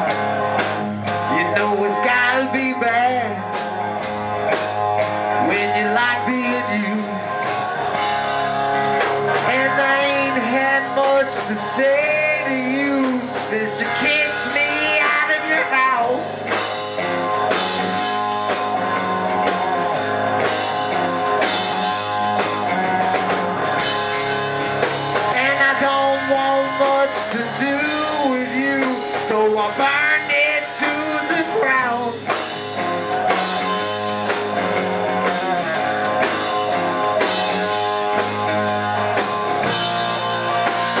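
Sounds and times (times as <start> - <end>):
drum kit: 0.0 - 41.0
electric guitar: 0.0 - 41.0
rock band playing: 0.0 - 41.0.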